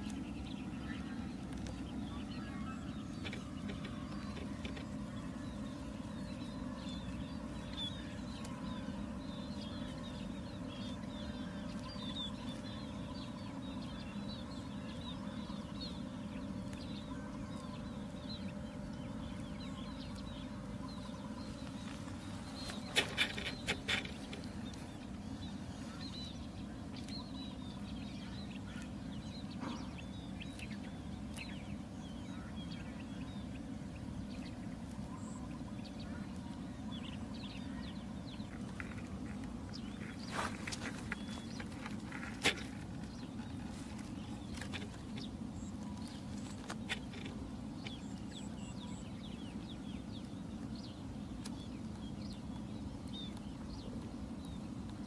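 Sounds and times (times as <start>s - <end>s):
birds chirping faintly: 0.0s - 55.0s
steady low rumble: 0.0s - 55.0s.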